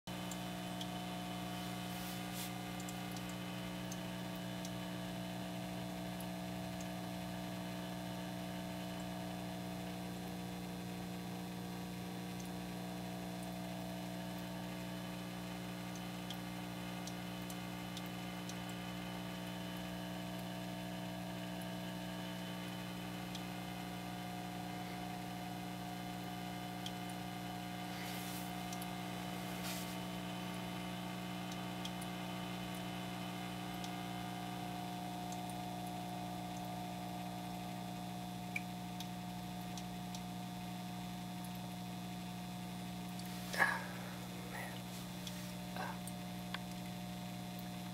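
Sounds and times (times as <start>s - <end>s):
electrical hum: 0.1s - 47.9s.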